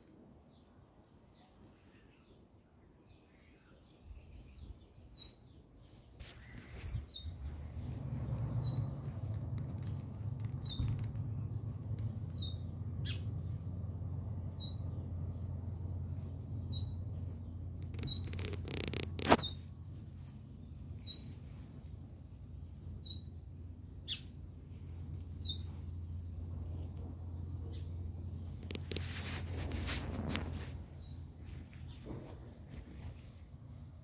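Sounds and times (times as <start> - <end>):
small bird chirping: 1.4 - 13.7, 14.5 - 32.1
steady low rumble: 6.3 - 34.0.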